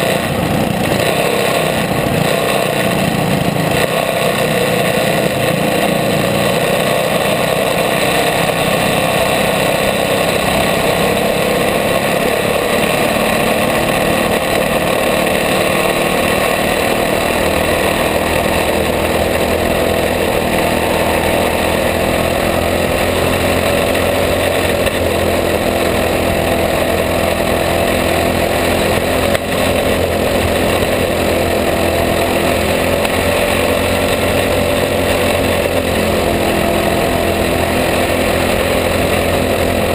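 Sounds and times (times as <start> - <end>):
kart engine droning: 0.0 - 39.9.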